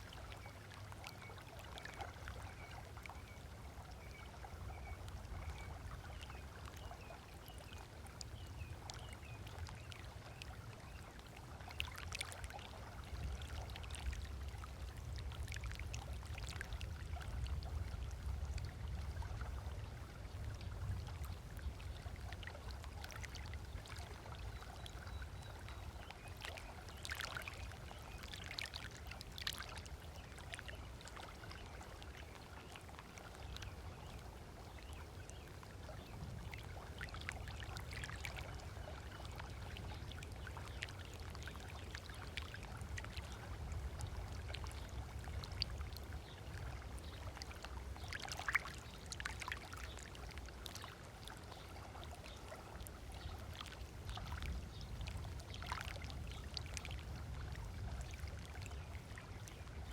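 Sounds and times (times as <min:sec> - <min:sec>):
small waves lapping on beach: 0:00.0 - 0:59.9.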